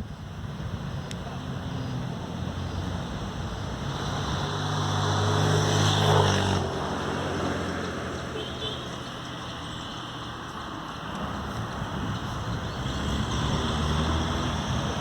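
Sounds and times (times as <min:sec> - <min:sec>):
vehicle engine passing by: 0:00.5 - 0:09.7, 0:11.2 - 0:15.0.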